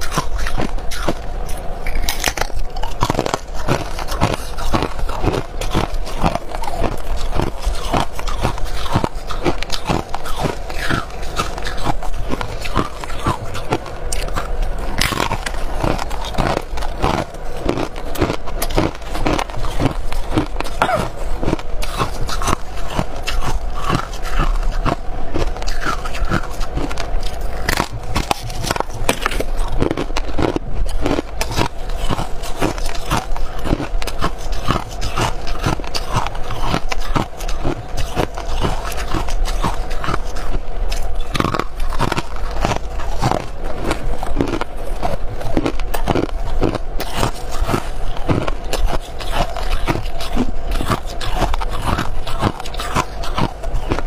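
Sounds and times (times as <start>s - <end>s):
person crunching ice: 0.0s - 54.0s.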